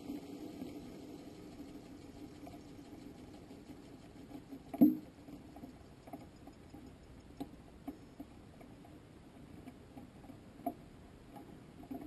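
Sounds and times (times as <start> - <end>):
low steady hum: 0.0 - 12.0
small ticks and rattles: 0.0 - 12.0.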